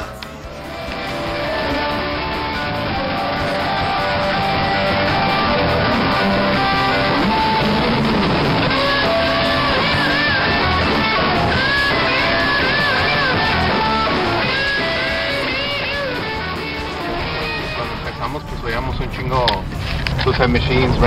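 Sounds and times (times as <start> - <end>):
strummed electric guitar: 0.0 - 21.0
wavering lead melody: 0.3 - 21.0
ska punk band playing: 0.4 - 18.8.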